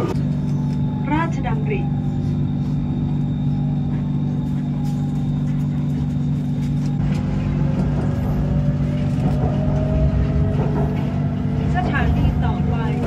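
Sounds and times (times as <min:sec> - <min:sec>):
moving vehicle hum and rumble: 0:00.0 - 0:13.0.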